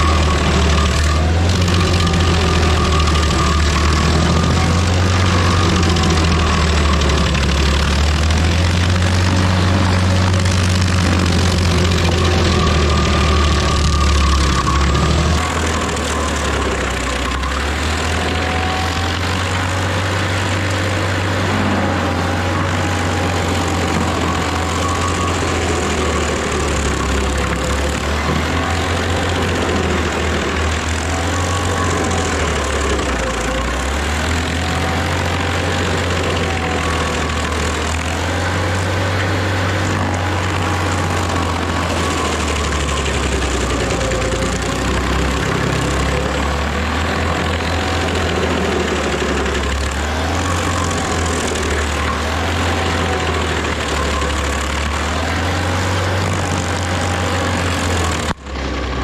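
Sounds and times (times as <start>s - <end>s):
stump grinder engine running: 0.0s - 59.0s.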